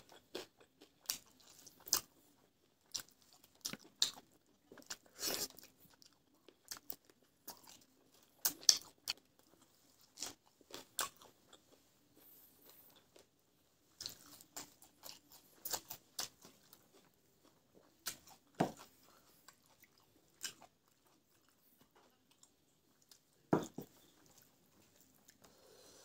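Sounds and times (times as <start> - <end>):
chewing and crunching greens: 0.0 - 25.5.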